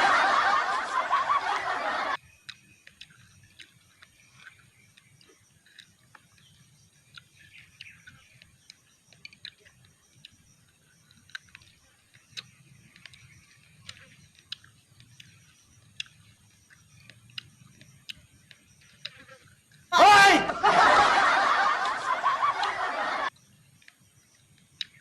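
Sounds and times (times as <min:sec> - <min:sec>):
wet chewing and sucking clicks: 0:01.5 - 0:19.9, 0:21.8 - 0:25.0.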